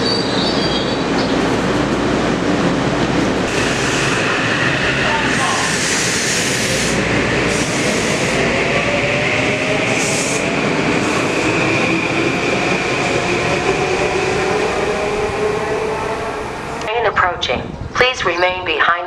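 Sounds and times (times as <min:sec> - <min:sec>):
train wheels rumbling on rail: 0:00.0 - 0:16.9.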